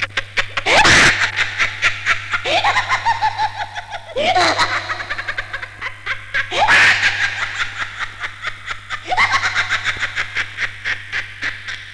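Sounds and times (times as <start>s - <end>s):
cartoon voices laughing: 0.0s - 11.9s
steady low hum: 0.0s - 11.9s.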